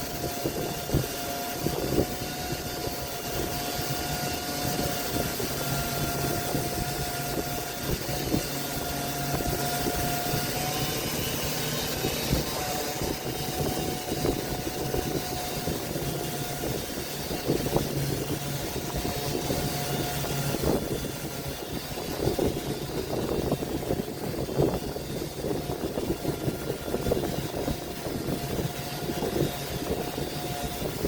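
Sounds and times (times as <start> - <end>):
power tool motor hum: 0.0 - 31.0
tool scratching wood: 0.0 - 31.0.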